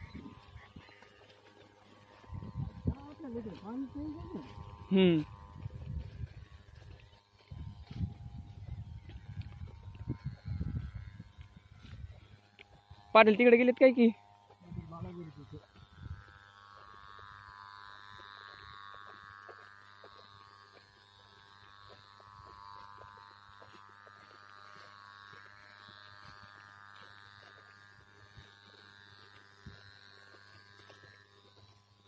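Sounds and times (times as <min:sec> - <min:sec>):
faint buzzing hum: 0:00.0 - 0:32.0
soft irregular ticks: 0:00.0 - 0:32.0
wavering high whine: 0:00.0 - 0:32.0.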